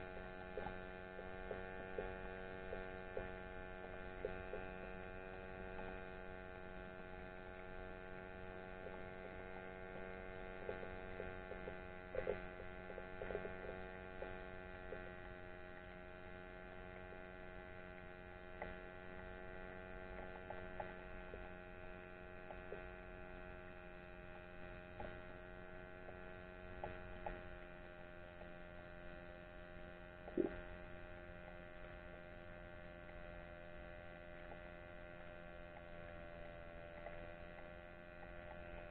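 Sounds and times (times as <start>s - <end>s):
steady underwater hum: 0.0s - 38.9s.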